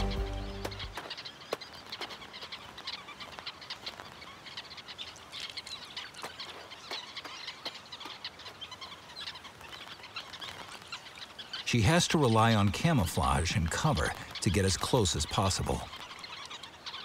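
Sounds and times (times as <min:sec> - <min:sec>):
flock of birds chattering: 0:00.0 - 0:17.0.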